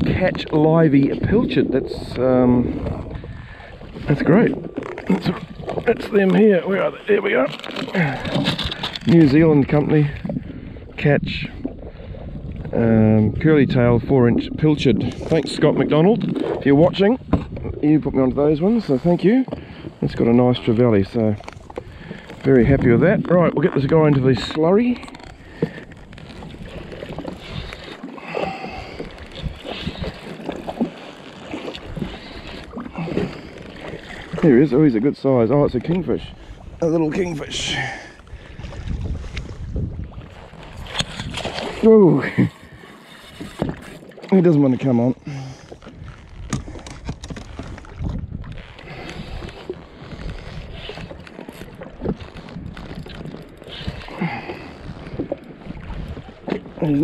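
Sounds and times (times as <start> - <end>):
wind buffeting microphone: 0.0 - 7.1, 8.0 - 30.9, 31.5 - 44.0, 44.7 - 57.0
water lapping against hull: 0.0 - 57.0.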